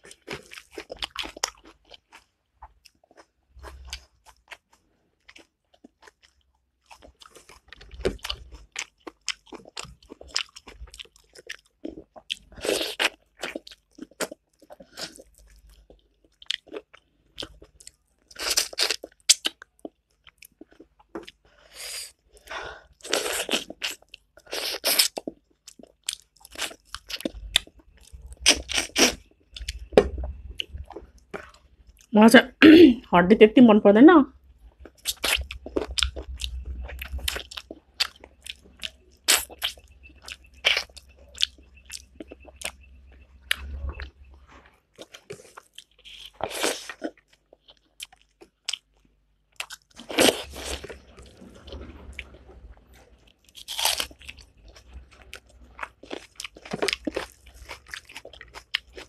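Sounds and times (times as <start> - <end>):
person chewing and crunching: 0.0 - 32.1, 34.7 - 59.0.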